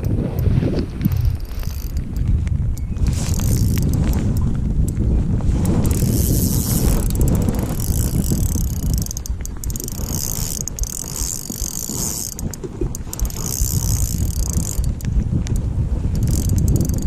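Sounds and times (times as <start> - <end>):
fishing reel clicking whir: 0.0 - 17.0
wind buffeting microphone: 0.0 - 17.0.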